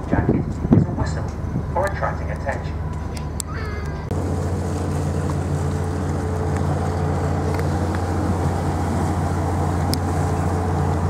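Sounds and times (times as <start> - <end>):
ship engines droning: 0.0 - 11.0
wind: 0.0 - 11.0.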